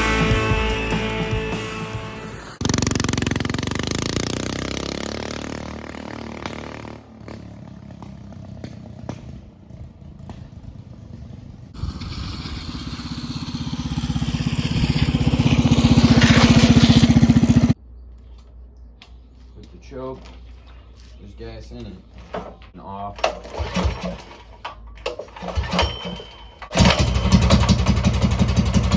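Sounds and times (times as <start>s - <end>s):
minibike engine running: 0.0s - 17.8s, 23.2s - 28.9s.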